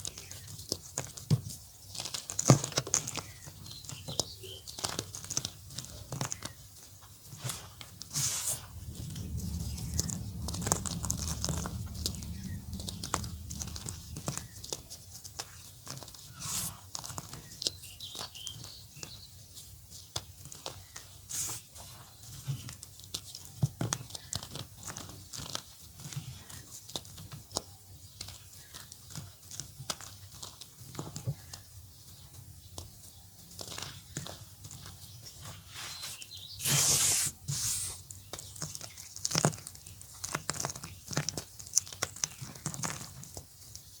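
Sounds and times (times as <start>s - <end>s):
chalk crumbling and crackling: 0.0s - 44.0s.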